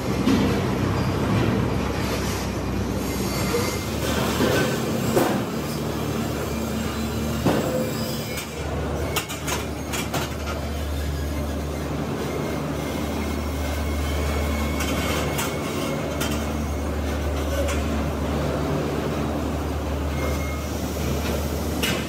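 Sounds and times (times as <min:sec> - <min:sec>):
factory machinery rumble: 0:00.0 - 0:22.0.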